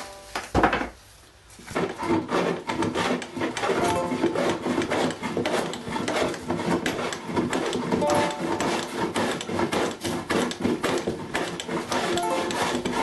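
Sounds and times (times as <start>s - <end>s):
hand tool scraping wood: 1.6s - 13.0s.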